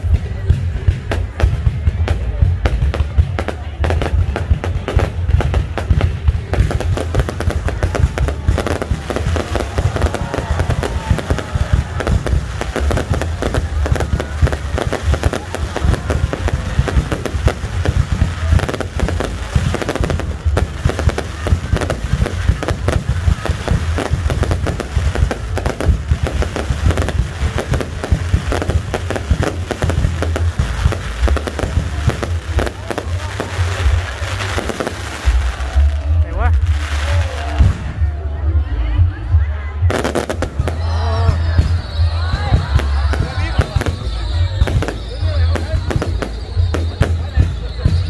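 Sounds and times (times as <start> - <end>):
heavy low rumble: 0.0 - 47.9
fireworks bangs and crackles: 0.0 - 48.0.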